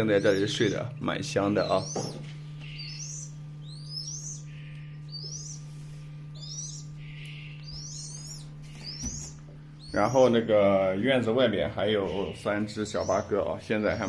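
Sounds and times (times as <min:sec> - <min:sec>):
chicks peeping: 0:00.0 - 0:14.0
low electrical hum: 0:00.0 - 0:14.0.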